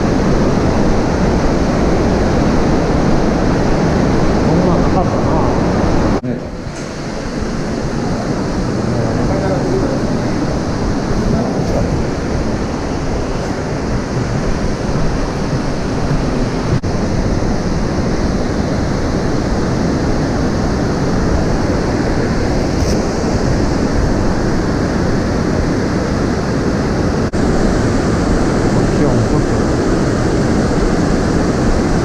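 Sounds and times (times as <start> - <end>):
waterfall roaring: 0.0 - 32.0.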